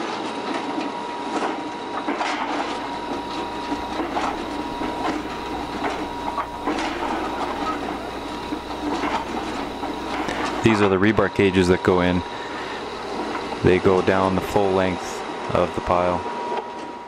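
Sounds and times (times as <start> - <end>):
drill rig running: 1.2 - 16.2.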